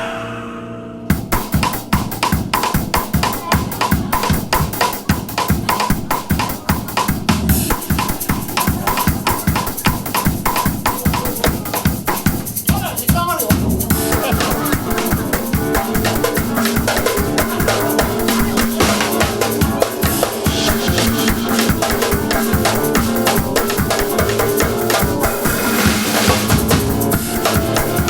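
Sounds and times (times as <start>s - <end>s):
fast drum kit beat: 1.1s - 28.0s.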